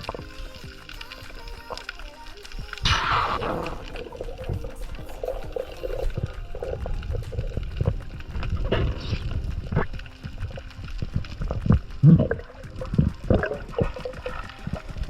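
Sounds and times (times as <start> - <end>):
water sloshing and gurgling: 0.0 - 15.0.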